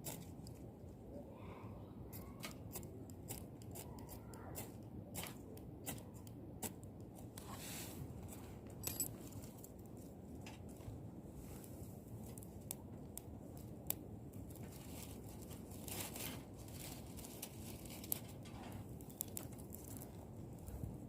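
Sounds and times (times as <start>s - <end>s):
rustling and crinkling: 0.0s - 1.2s, 4.6s - 21.0s.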